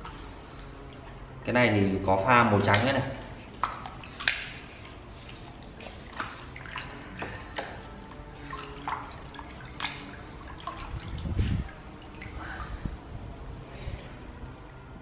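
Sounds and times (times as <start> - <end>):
water splashing and dripping: 0.0 - 15.0.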